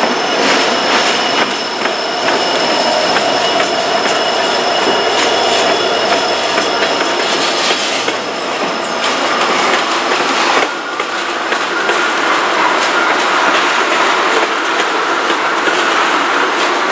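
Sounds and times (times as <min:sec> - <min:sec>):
freight train wheels clicking over rail joints: 0:00.0 - 0:16.9
high wheel squeal: 0:00.0 - 0:16.9.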